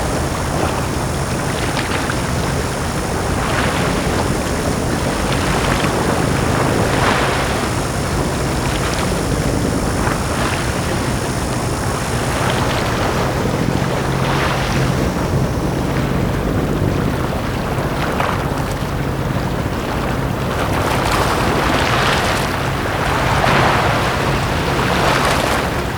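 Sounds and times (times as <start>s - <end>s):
small waves washing onto beach: 0.0s - 25.9s
steady low hum: 0.0s - 25.9s.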